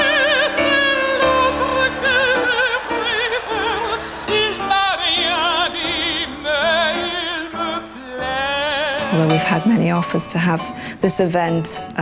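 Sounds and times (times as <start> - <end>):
operatic singing with vibrato: 0.0 - 10.2
held instrumental accompaniment: 0.0 - 10.6.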